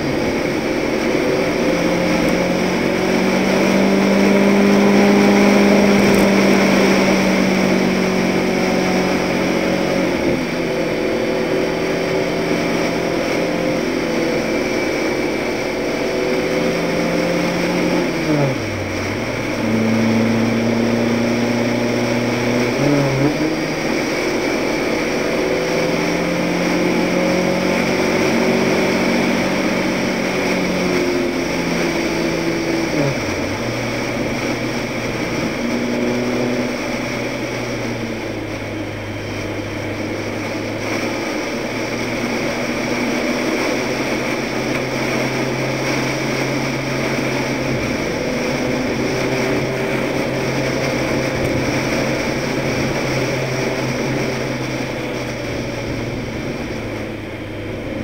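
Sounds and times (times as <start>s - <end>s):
truck engine running: 0.0s - 58.0s
wind and tyre noise: 0.0s - 58.0s.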